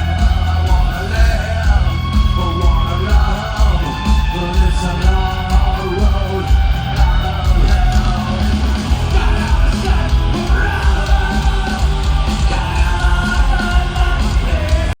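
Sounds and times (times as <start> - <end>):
live heavy rock band: 0.0 - 15.0
yelled vocals: 0.0 - 15.0.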